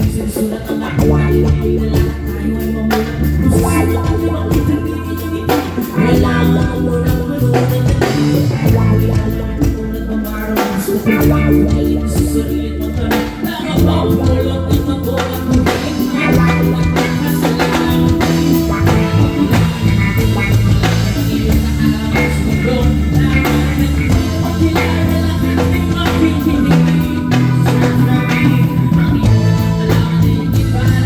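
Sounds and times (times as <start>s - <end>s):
bass: 0.0s - 31.0s
drum kit beat: 0.0s - 31.0s
guitar: 0.0s - 31.0s
person singing: 0.0s - 31.0s.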